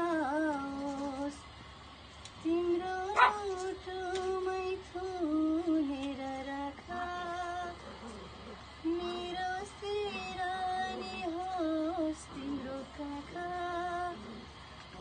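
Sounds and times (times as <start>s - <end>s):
woman singing unaccompanied: 0.0s - 1.6s, 2.4s - 15.0s.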